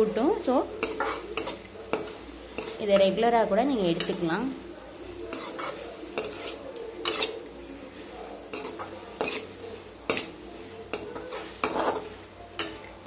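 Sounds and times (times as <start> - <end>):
metal ladle scraping pan: 0.7 - 4.4, 5.0 - 12.9.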